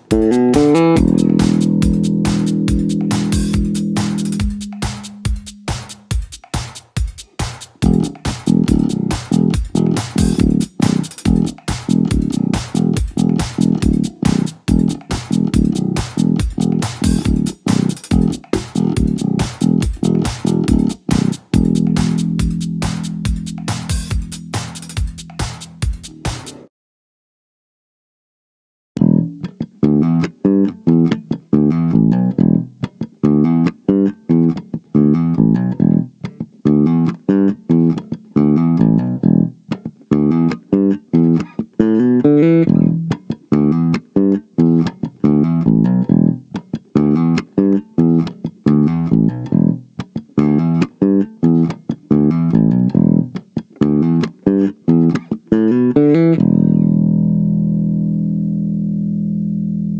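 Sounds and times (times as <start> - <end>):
plucked electric bass notes: 0.0 - 6.2, 7.8 - 26.2, 29.0 - 59.9.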